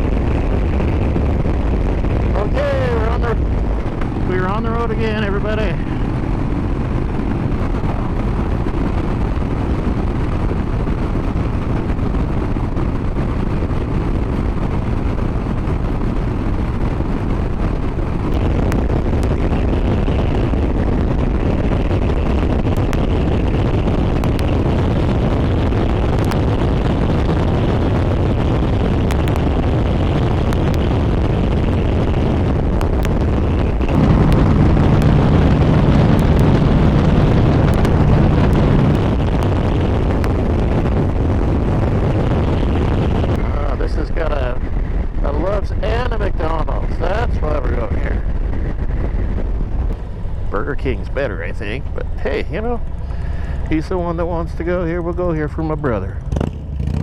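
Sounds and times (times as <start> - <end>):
motorcycle engine running: 0.0 - 57.0
wind rush over microphone: 0.0 - 57.0.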